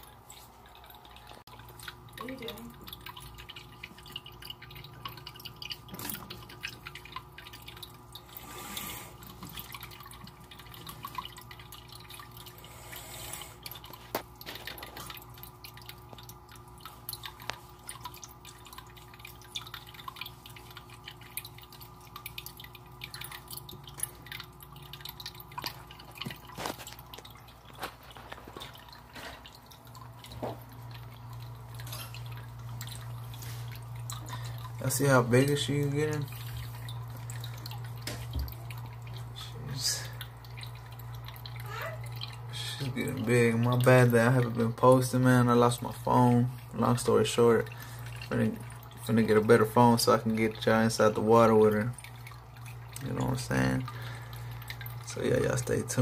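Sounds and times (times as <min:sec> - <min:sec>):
steady low hum: 0:00.0 - 0:56.0
water trickling and dripping: 0:00.0 - 0:56.0.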